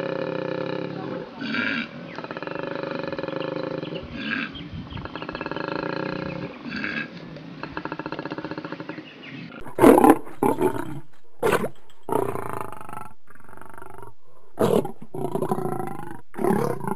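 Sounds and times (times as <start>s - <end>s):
koala bellowing: 0.0s - 16.9s.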